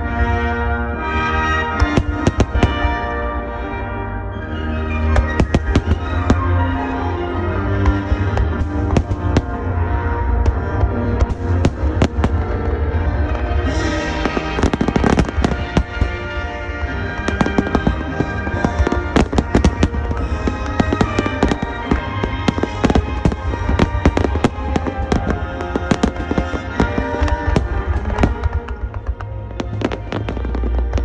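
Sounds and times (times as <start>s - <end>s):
music playing: 0.0s - 31.0s
fireworks bursting and crackling: 1.3s - 3.2s, 5.0s - 31.0s.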